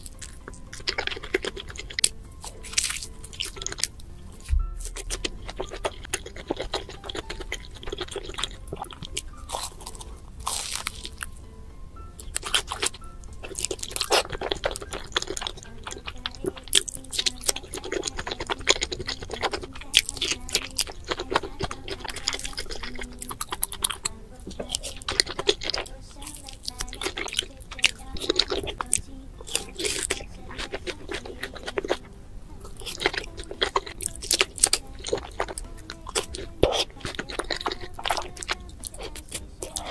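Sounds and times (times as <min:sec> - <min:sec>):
background music: 0:00.0 - 0:39.9
crunching and chewing fried food: 0:00.0 - 0:39.9.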